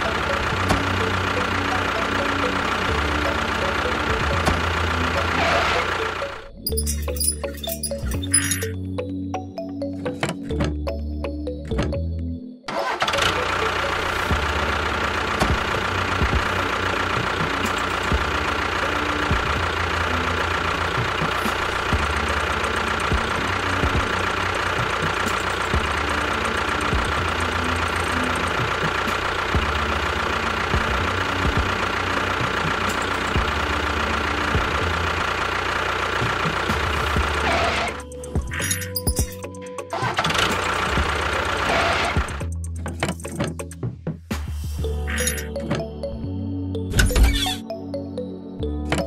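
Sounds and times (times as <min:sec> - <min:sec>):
tractor engine chugging: 0:00.0 - 0:11.7, 0:12.7 - 0:44.0, 0:44.8 - 0:46.0.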